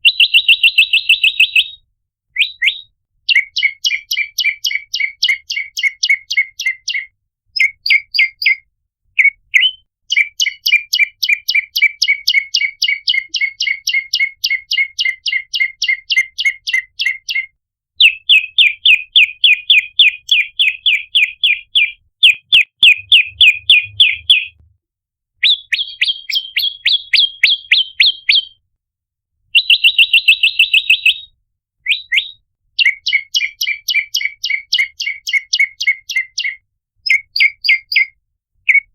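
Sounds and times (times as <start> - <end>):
bird chirping rapidly: 0.0 - 1.8, 2.4 - 8.6, 9.2 - 24.6, 25.4 - 28.6, 29.6 - 31.3, 31.9 - 38.9.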